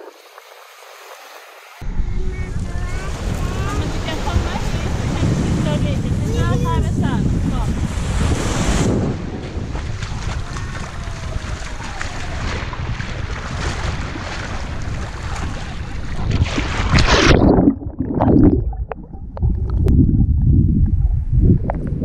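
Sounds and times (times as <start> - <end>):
sea surf rushing: 0.0 - 17.6
wind buffeting microphone: 1.8 - 22.0.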